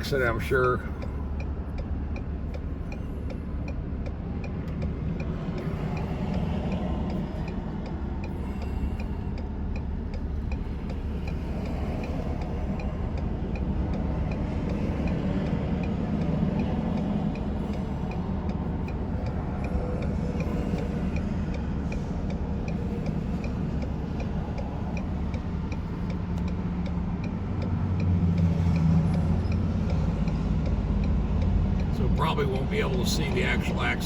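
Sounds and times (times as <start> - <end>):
idling vehicle rumble: 0.0 - 34.0.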